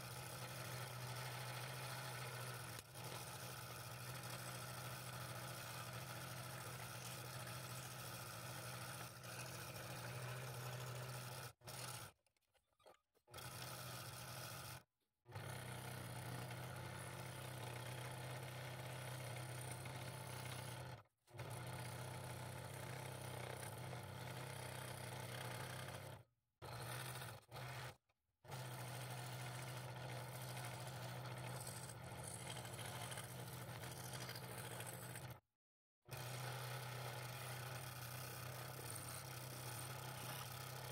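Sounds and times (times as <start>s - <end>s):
scroll saw cutting wood: 0.0s - 35.4s, 36.1s - 40.9s.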